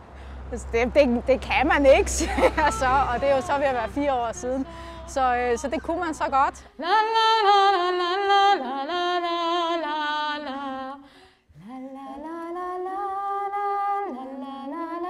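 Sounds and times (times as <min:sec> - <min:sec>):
woman singing unaccompanied: 0:01.5 - 0:15.0.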